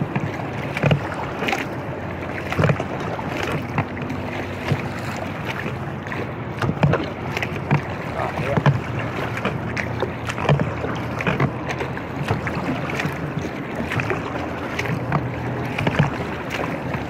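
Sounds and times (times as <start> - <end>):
knocks against inflatable hull: 0.0 - 1.7, 2.4 - 5.8, 6.5 - 17.0
water washing: 0.0 - 17.0.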